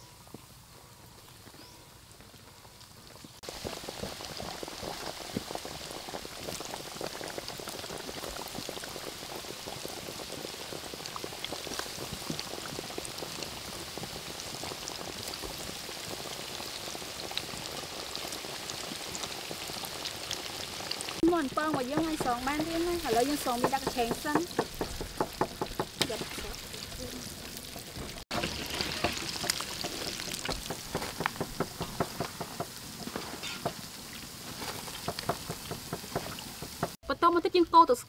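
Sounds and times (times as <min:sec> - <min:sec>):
hot oil sizzling and popping: 0:02.1 - 0:38.0.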